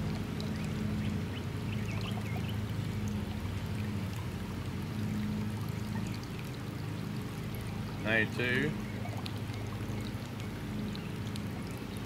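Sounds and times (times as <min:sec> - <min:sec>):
steady low hum: 0:00.0 - 0:12.0
water pouring into pool: 0:00.0 - 0:12.0.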